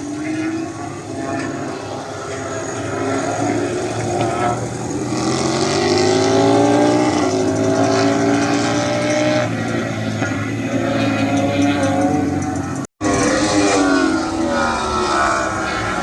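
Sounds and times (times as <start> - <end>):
motorcycle engines accelerating past: 0.0 - 16.0.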